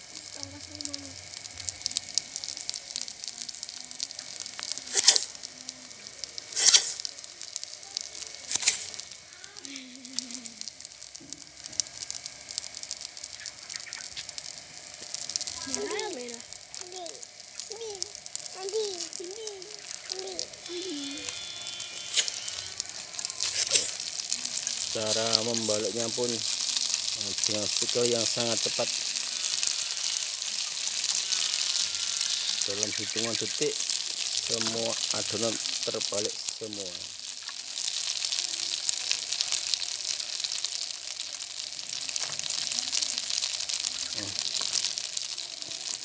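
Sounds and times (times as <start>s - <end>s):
batter sizzling in hot oil: 0.0s - 46.0s.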